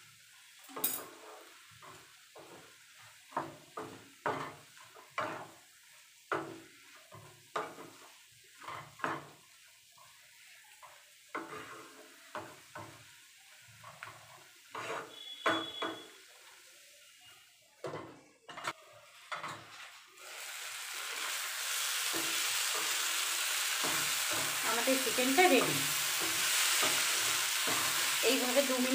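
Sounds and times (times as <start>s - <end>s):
food sizzling in pan: 0.0s - 28.9s
spatula scraping frying pan: 1.0s - 10.2s, 10.9s - 13.0s, 13.6s - 16.1s, 18.7s - 28.9s.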